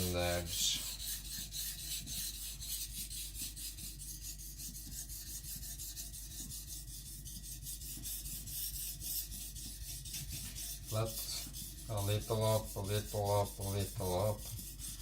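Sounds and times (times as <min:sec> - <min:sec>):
blade scraping on water stone: 0:00.0 - 0:15.0.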